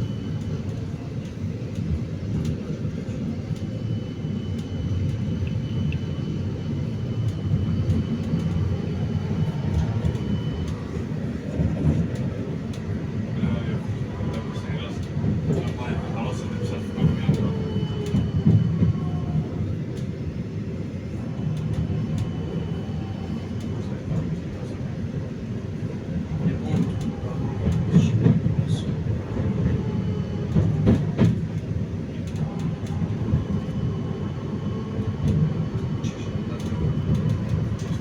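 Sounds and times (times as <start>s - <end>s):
faint whining tones: 0.0s - 38.0s
tram wheels rumbling on rails: 0.0s - 38.0s.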